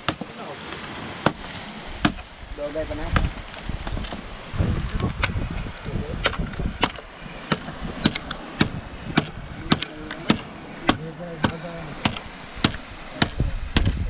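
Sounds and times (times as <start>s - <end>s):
machete chopping a branch: 0.0s - 2.3s, 3.1s - 4.4s, 6.2s - 14.0s.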